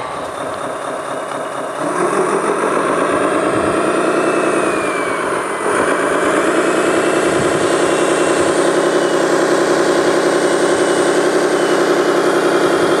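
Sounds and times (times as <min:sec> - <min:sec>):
model loader engine running: 0:00.0 - 0:13.0.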